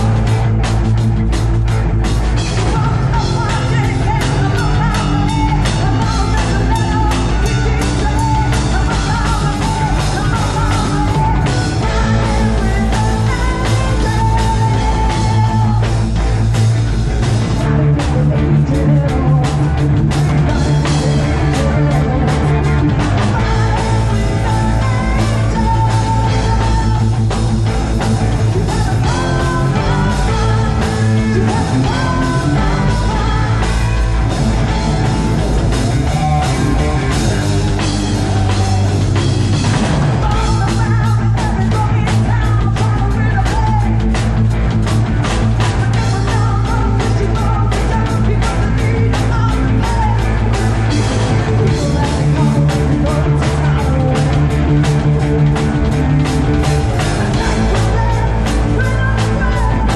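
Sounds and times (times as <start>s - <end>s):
person singing: 0.0s - 0.5s, 2.4s - 16.2s, 17.6s - 44.3s, 45.3s - 56.0s, 56.6s - 59.9s
rock band playing: 0.0s - 59.9s.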